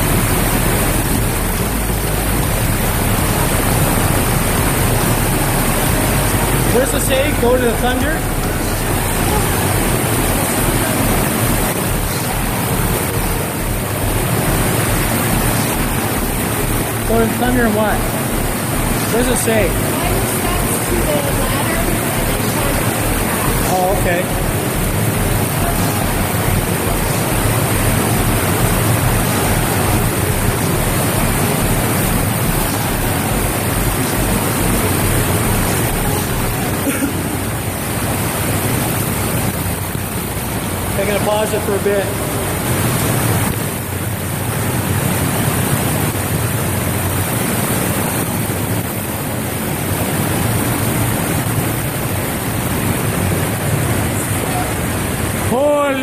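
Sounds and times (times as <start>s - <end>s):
water rushing in tunnel: 0.0s - 56.0s.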